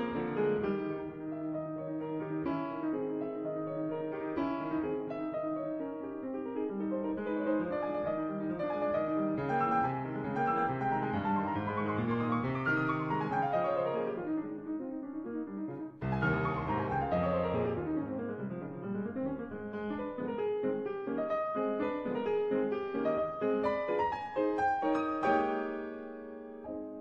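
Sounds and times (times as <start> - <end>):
piano music in flowing runs: 0.0 - 27.0.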